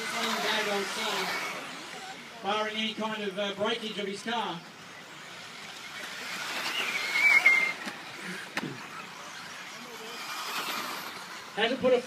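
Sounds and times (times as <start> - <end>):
high motor whine: 0.0 - 12.0
rc cars racing past: 0.0 - 12.0.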